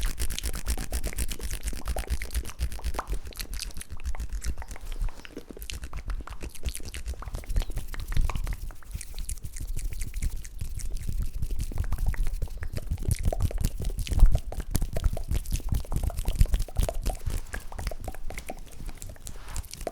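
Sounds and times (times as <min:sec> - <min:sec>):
wet mouth clicks and pops: 0:00.0 - 0:19.9.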